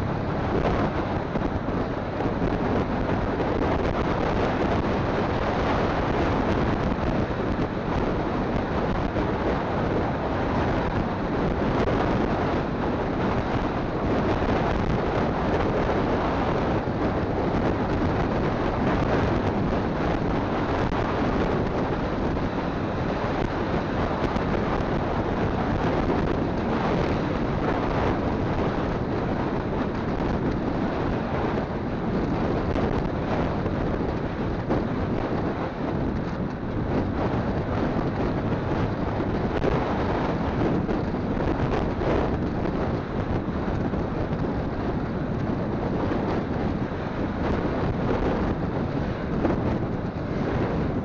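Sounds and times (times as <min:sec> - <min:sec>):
motorcycle road and engine noise: 0:00.0 - 0:51.0
wind buffeting microphone: 0:00.0 - 0:51.0.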